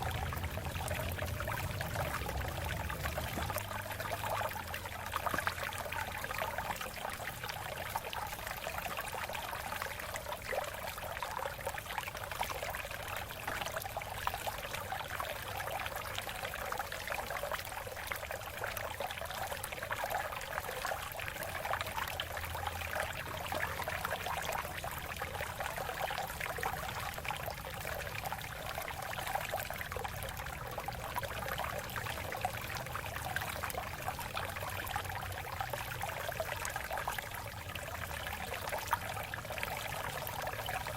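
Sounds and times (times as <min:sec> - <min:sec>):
water babbling over rocks: 0:00.0 - 0:40.9.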